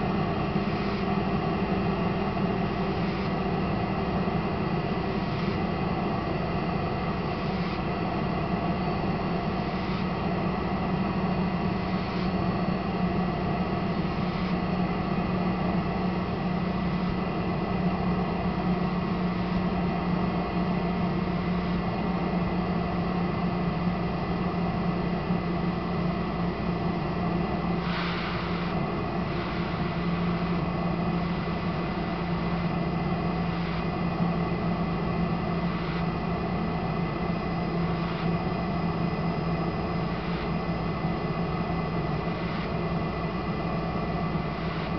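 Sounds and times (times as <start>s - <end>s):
ventilator blower hum and whine: 0.0s - 44.9s.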